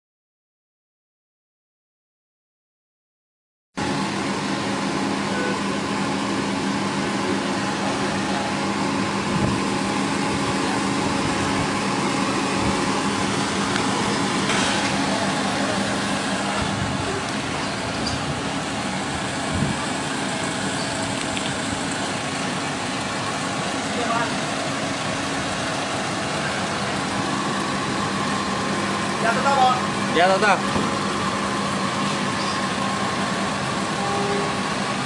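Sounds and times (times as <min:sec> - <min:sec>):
car engine running: 0:03.8 - 0:35.0
street traffic: 0:03.8 - 0:35.0.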